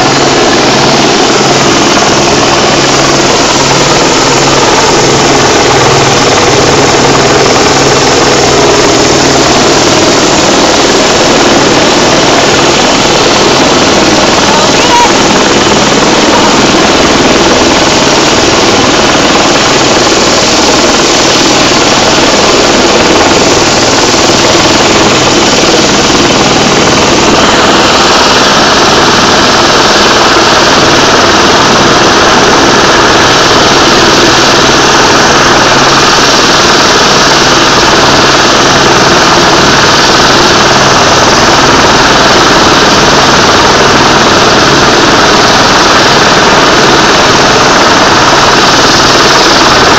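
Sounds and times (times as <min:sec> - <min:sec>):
helicopter hovering: 0:00.0 - 0:49.9.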